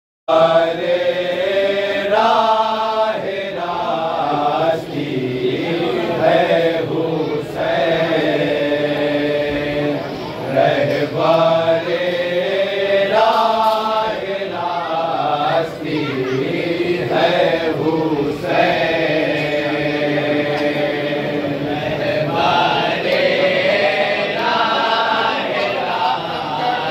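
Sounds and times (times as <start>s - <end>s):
men chanting a lament: 0.3s - 26.9s.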